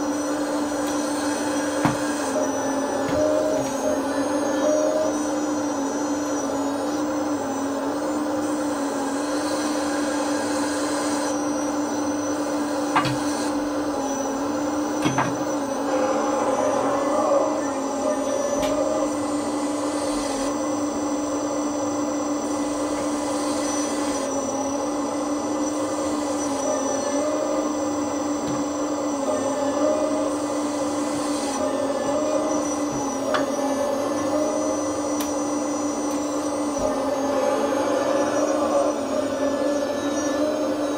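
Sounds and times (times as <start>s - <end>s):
toy excavator hydraulic hum: 0.0s - 40.9s.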